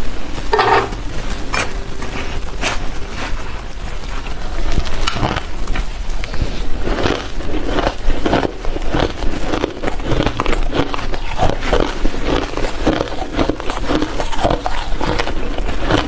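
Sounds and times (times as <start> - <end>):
ice being chewed: 0.9 - 16.0.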